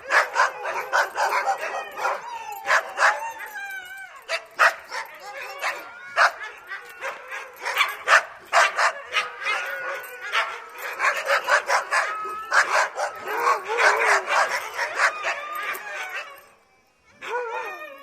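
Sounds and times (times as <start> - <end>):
dogs barking excitedly: 0.0 - 3.6, 4.2 - 16.5
dogs whining: 0.0 - 18.0.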